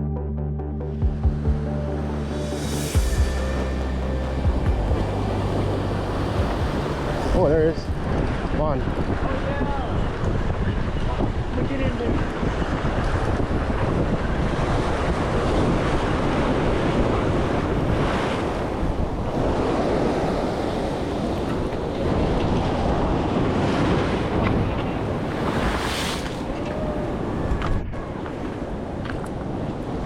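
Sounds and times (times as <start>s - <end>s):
wind buffeting microphone: 2.4s - 30.0s
surf washing against rocks: 3.5s - 10.4s, 11.1s - 30.0s.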